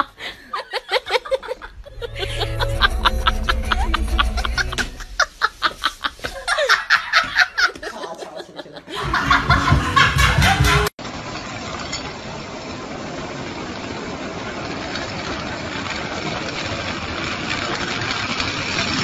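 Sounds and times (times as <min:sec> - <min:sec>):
hose rolling machine running: 0:00.8 - 0:08.2, 0:08.9 - 0:19.0.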